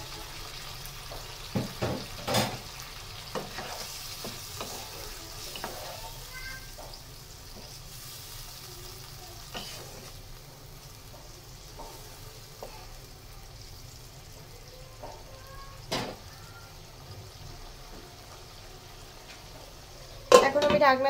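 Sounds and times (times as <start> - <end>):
curry sizzling in a wok: 0.0 - 21.0.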